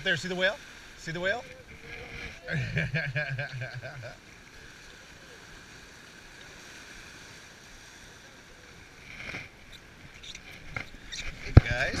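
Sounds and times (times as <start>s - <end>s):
water washing along boat hull: 0.0s - 12.0s.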